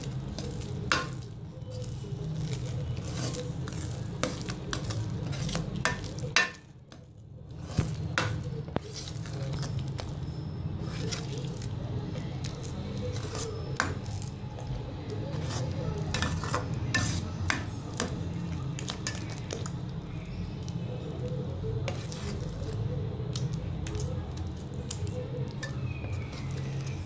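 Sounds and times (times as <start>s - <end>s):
metal spoon scraping a pot: 0.0s - 6.7s, 7.5s - 14.4s, 15.1s - 27.0s.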